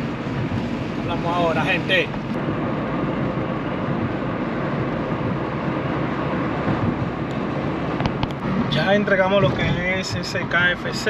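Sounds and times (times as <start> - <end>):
car road noise: 0.0 - 11.0.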